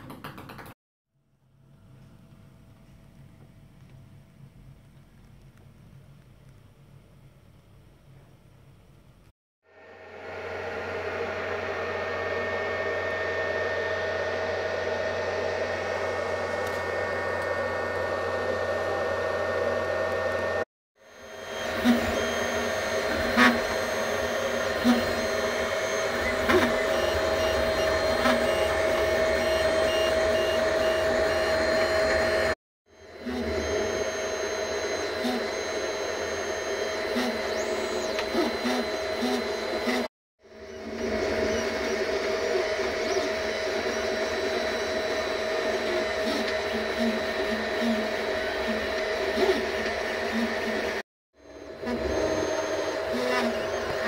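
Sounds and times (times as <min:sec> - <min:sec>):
stepper motor whine: 0:09.7 - 0:54.0
cooling fans whirring: 0:10.0 - 0:54.0.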